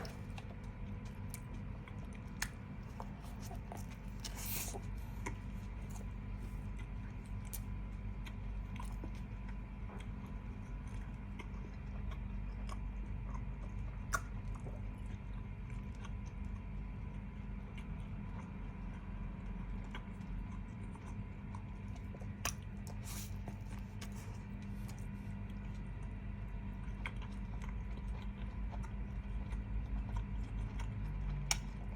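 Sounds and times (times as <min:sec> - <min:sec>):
person chewing food: 0:00.0 - 0:31.9.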